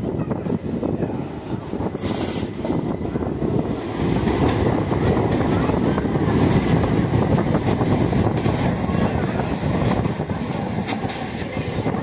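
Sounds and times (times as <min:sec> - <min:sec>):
passenger coaches passing: 0:00.0 - 0:12.0
train rumbling and rattling: 0:00.0 - 0:12.0.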